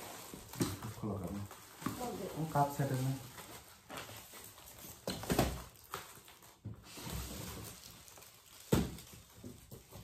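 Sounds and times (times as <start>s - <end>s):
foil wrapping paper crinkling: 0.0s - 10.0s.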